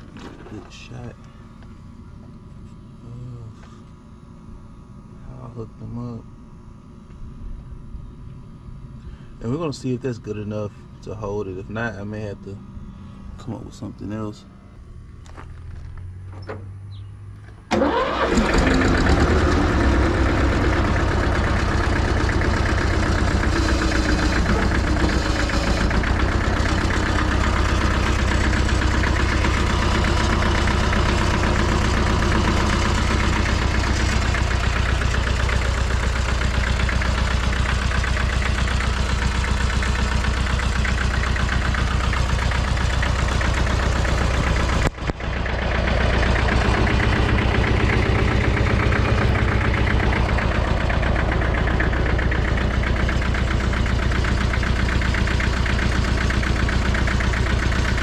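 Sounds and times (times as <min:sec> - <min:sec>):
diesel tractor engine idling: 0:00.0 - 0:58.0.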